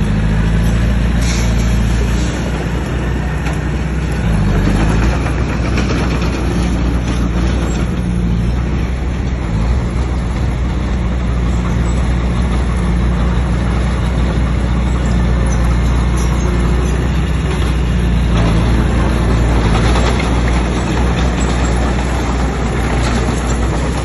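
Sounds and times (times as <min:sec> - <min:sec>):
bulldozer diesel engine rumbling: 0:00.0 - 0:24.0
constant clattering: 0:00.0 - 0:24.0.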